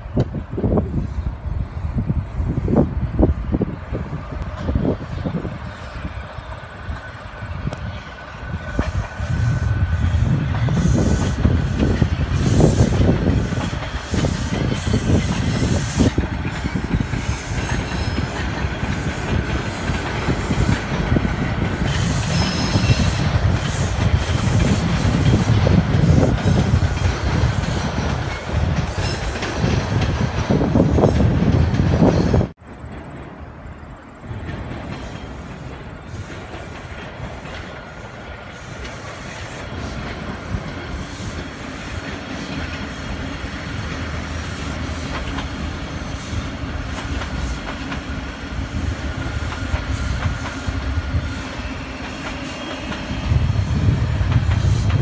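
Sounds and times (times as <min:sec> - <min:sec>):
subway train rail noise: 0:00.0 - 0:55.0.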